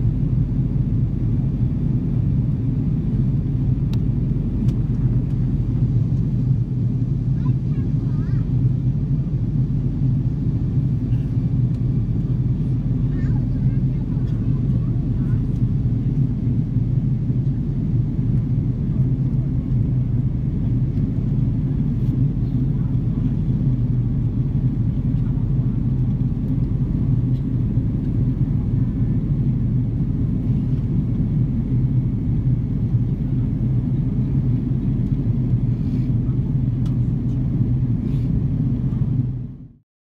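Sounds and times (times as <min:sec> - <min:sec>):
aircraft cabin engine rumble: 0:00.0 - 0:39.8.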